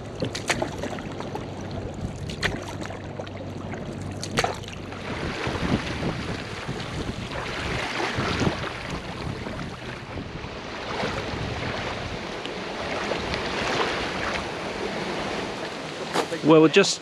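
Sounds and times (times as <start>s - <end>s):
wind buffeting microphone: 0.0s - 15.6s
water lapping against canoe hull: 0.0s - 16.5s.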